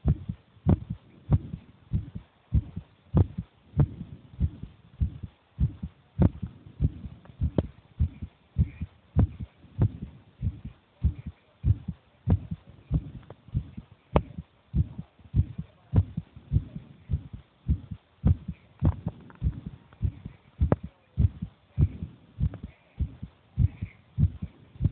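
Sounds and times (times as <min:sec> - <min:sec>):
child's heartbeat: 0:00.0 - 0:24.9.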